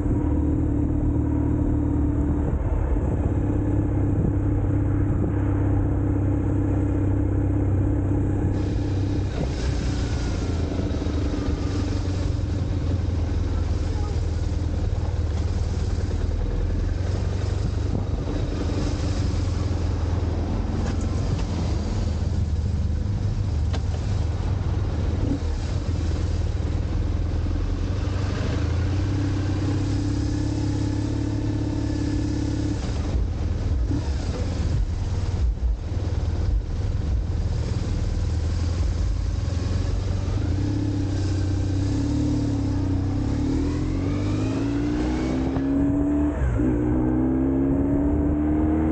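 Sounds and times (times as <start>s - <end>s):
motorcycle engine running: 0.0s - 46.6s
surrounding cars: 0.0s - 48.9s
wind and road noise: 0.0s - 48.9s.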